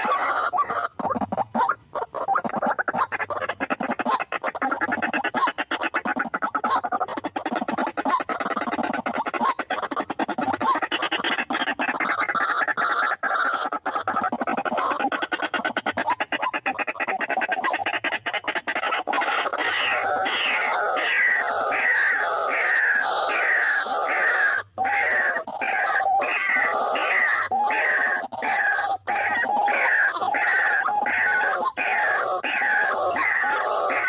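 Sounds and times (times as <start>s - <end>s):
birds calling harshly: 0.0s - 34.0s.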